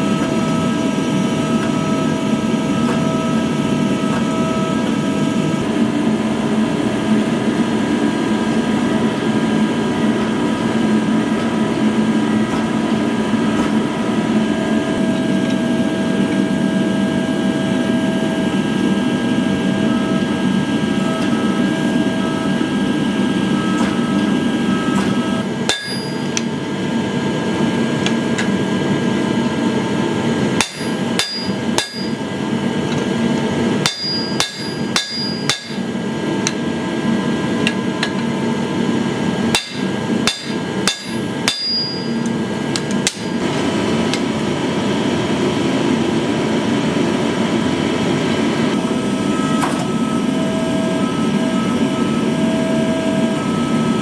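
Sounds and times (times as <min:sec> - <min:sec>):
forging press machinery droning: 0:00.0 - 0:54.0.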